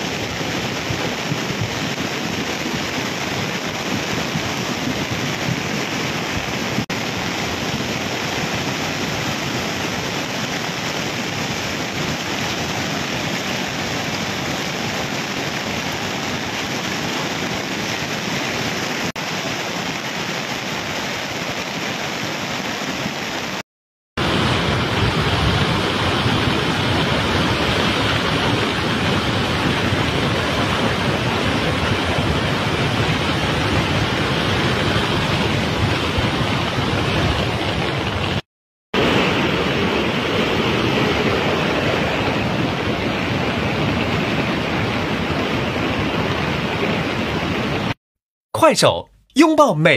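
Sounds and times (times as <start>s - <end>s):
floodwater rushing: 0.0s - 23.6s, 24.2s - 38.4s, 39.0s - 48.0s.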